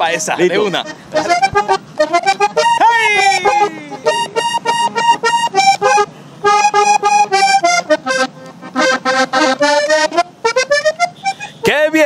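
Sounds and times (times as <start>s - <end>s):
button accordion playing: 0.0s - 11.7s.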